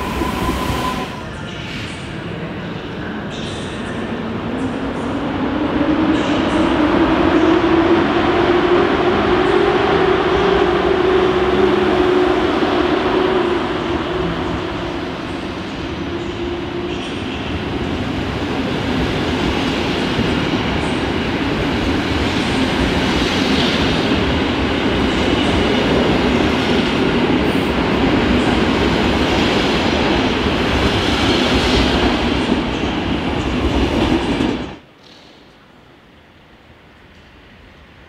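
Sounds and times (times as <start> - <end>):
train wheels running on rails: 0.0 - 36.3.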